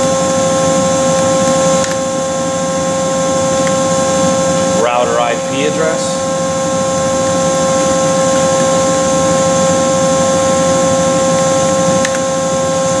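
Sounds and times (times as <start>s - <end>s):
electrical hum with high tone: 0.0s - 13.0s.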